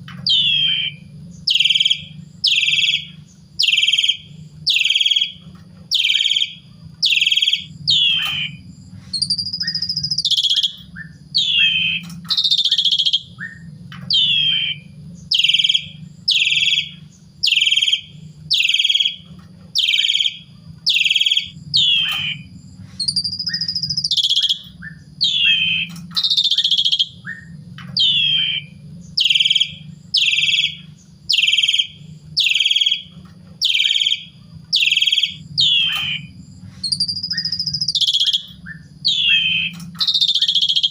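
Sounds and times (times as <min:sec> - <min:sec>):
low steady hum: 0:00.0 - 0:40.9
starling singing: 0:00.0 - 0:40.9.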